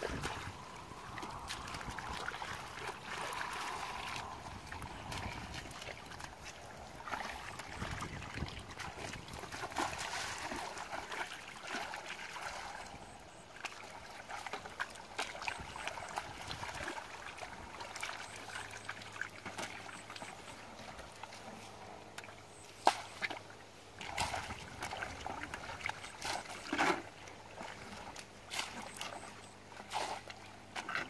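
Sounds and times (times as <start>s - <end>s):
muddy water splashing: 0.0s - 31.0s.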